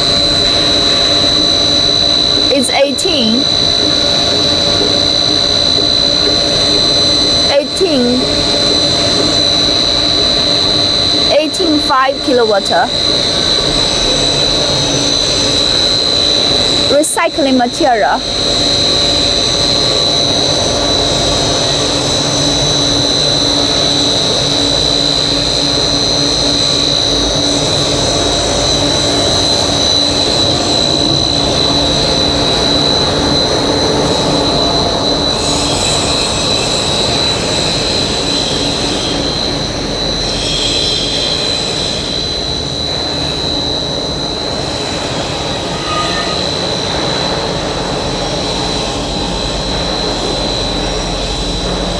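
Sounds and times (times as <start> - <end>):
steady high whine: 0.0 - 51.9.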